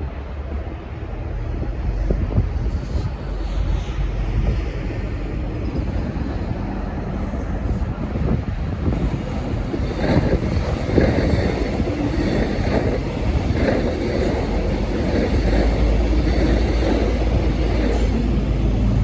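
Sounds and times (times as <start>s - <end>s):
deep low drone: 0.0s - 19.0s
diesel locomotive rumbling: 0.0s - 19.0s.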